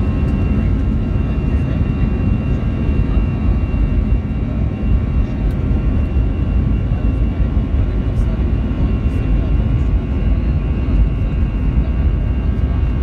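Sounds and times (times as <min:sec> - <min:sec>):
jet engine high whine: 0:00.0 - 0:13.0
jet engine low rumble: 0:00.0 - 0:13.0.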